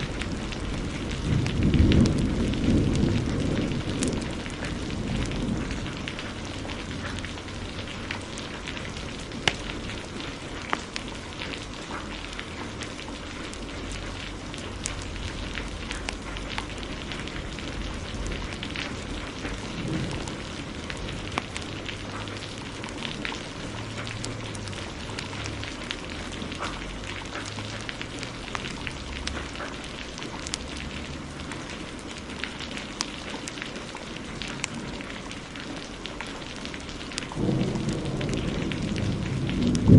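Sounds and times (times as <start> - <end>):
heavy rain hissing: 0.0 - 39.9
wood fire crackling and popping: 0.0 - 39.9.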